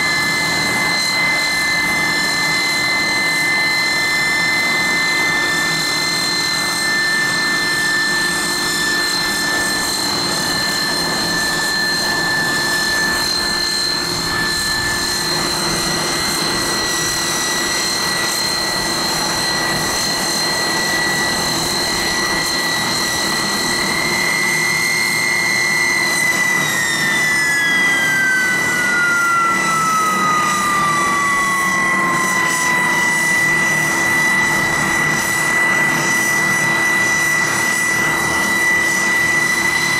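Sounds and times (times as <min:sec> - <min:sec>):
turboprop engines whining: 0:00.0 - 0:39.9.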